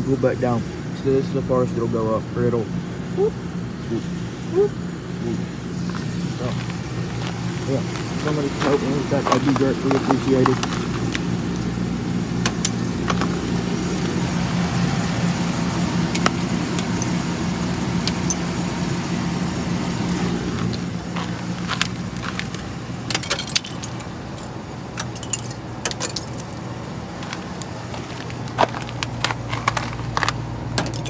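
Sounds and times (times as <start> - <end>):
truck engine idling: 2.9 - 31.0
light metallic jingling: 5.6 - 31.0.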